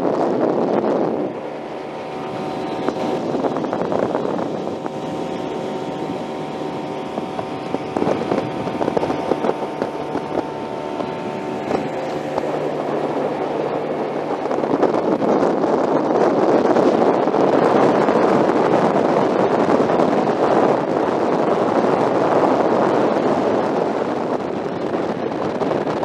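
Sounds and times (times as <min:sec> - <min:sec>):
motorboat engine running: 0:00.0 - 0:26.0
wind buffeting microphone: 0:00.0 - 0:26.0.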